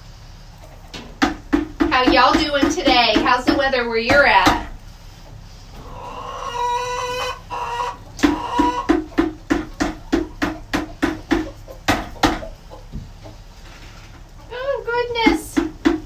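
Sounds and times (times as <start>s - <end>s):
hen calling and clucking: 0.0s - 16.0s.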